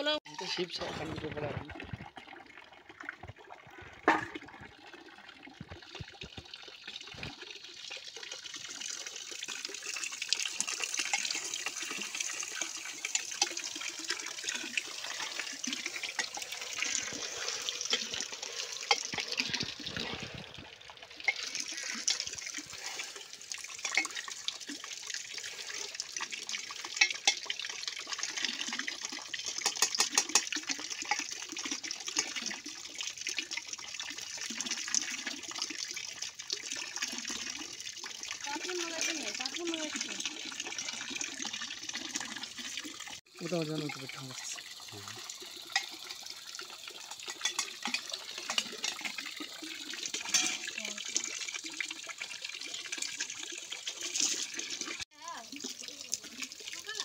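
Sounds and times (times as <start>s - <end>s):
water running and splashing: 0.0s - 57.0s.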